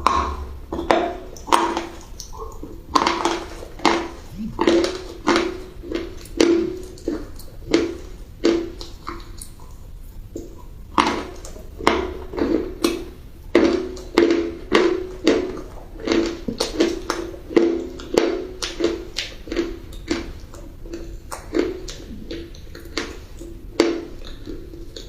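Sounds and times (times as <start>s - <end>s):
crunchy food being chewed: 0.0s - 25.0s.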